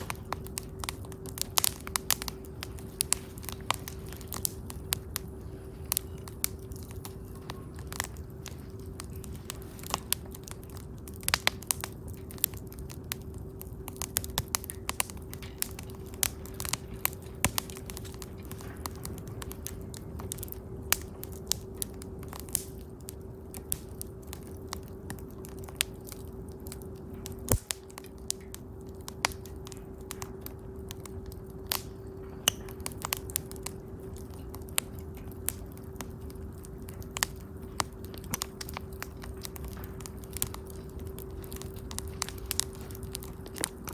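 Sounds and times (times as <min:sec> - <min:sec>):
campfire crackling and popping: 0:00.0 - 0:43.9
low rumble of burning: 0:00.0 - 0:43.9
steady hum: 0:00.0 - 0:43.9.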